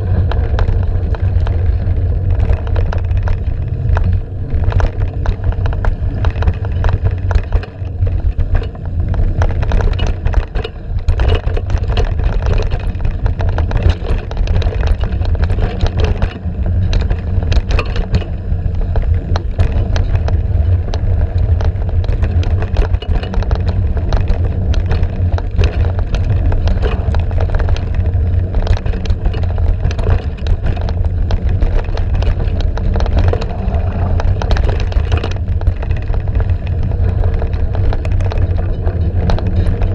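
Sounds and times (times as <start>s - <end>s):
bike rattling over rough ground: 0.0s - 39.9s
wind rumble on microphone: 0.0s - 39.9s.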